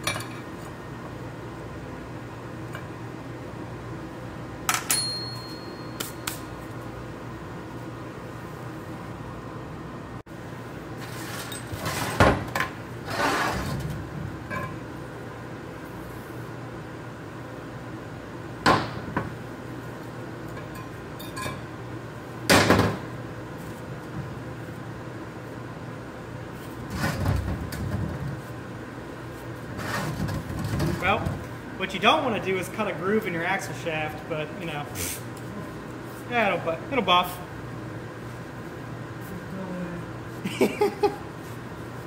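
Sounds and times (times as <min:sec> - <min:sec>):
shop background hum: 0:00.0 - 0:42.0.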